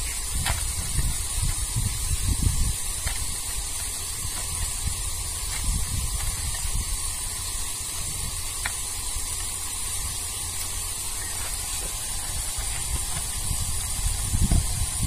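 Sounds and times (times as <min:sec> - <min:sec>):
steady hiss: 0:00.0 - 0:15.0
wind rumbling on microphone: 0:00.0 - 0:15.0.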